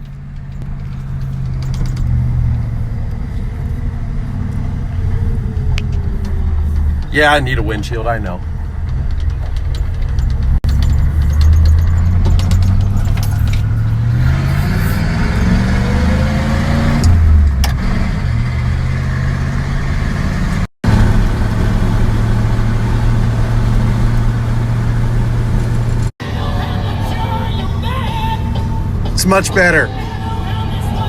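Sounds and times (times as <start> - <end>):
pickup truck engine accelerating: 0.0 - 31.0.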